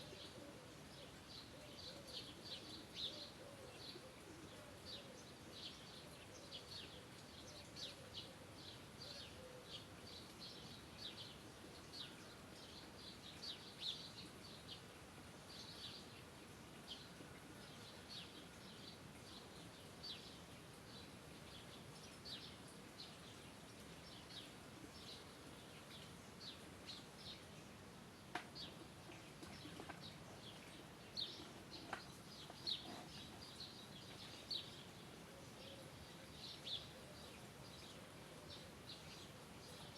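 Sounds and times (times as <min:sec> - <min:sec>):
birds chirping faintly: 0:00.0 - 0:39.9
soft background hiss: 0:00.0 - 0:39.9.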